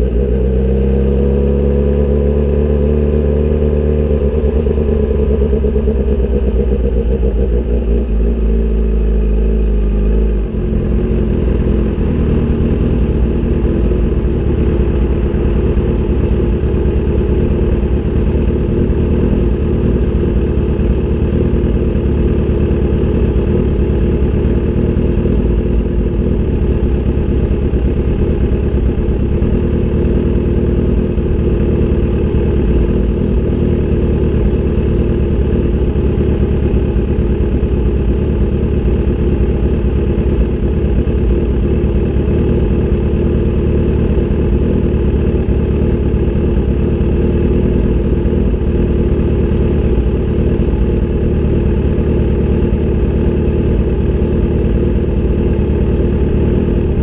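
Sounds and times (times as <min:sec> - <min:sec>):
motorcycle engine: 0:00.0 - 0:57.0.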